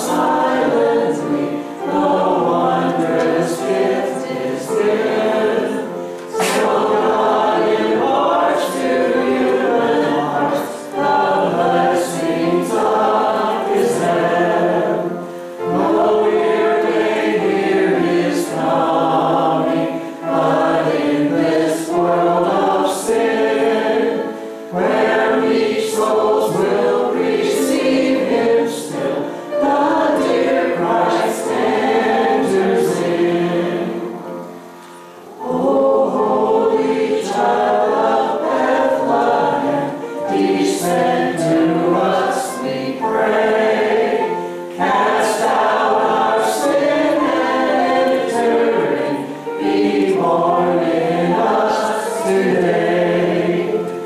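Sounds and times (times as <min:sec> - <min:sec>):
man and woman singing: 0:00.0 - 0:34.3, 0:35.3 - 0:53.9.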